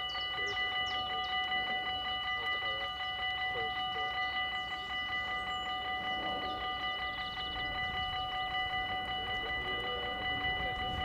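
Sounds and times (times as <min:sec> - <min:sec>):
level crossing bell ringing: 0:00.0 - 0:11.0.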